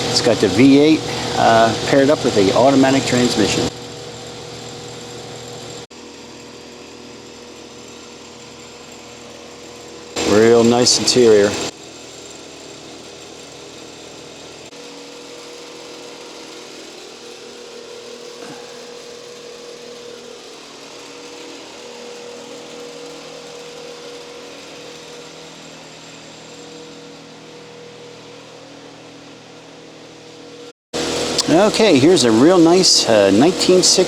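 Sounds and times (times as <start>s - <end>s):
machine hiss: 0.0s - 5.9s, 9.2s - 11.8s, 14.3s - 34.0s
machine whine: 0.0s - 34.0s.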